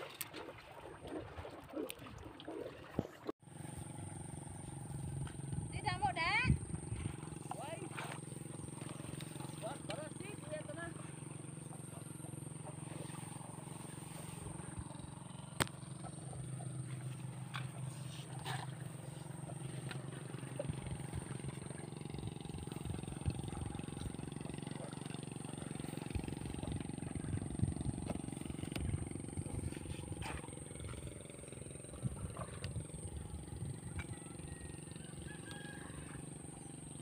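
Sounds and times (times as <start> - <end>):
engine running steadily: 3.4 - 37.0.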